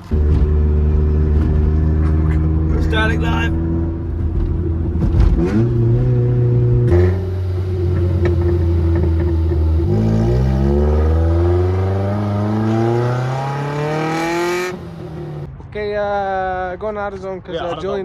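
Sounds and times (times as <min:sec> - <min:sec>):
car engine revving: 0:00.0 - 0:15.5.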